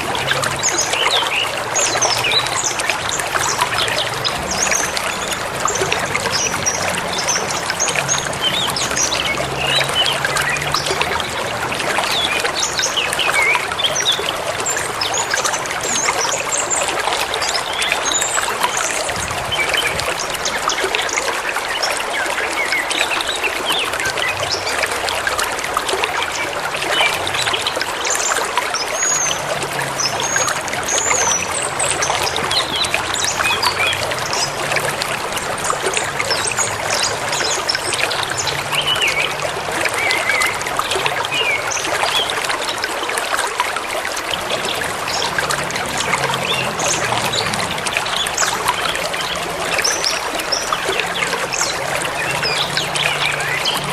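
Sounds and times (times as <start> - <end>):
river flowing over stones: 0.0 - 53.9.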